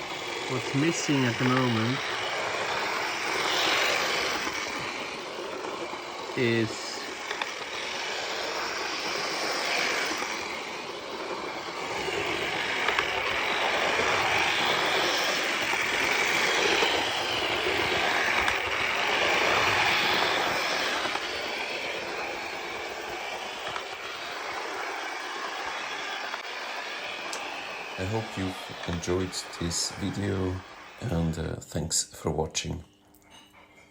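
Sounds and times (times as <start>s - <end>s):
electric motor whirring: 0.0s - 31.6s
model train wheels on rails: 0.0s - 33.5s.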